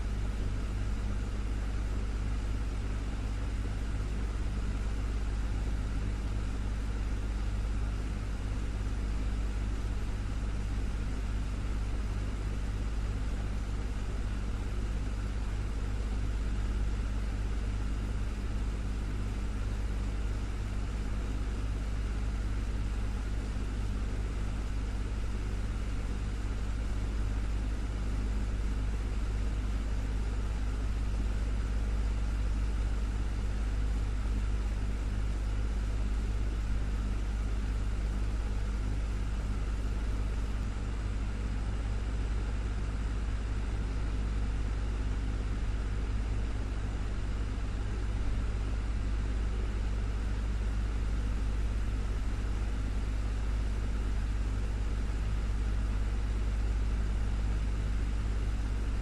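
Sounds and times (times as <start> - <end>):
desktop fan running: 0.0 - 59.0.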